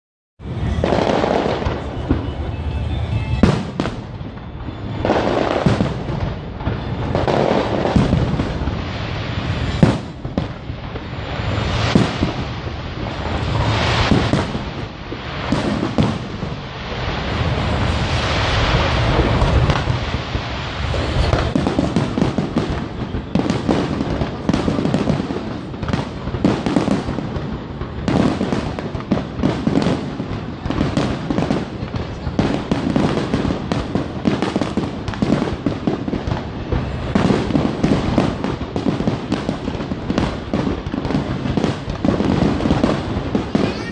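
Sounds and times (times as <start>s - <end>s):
fireworks crackling and hissing: 0.4s - 43.9s.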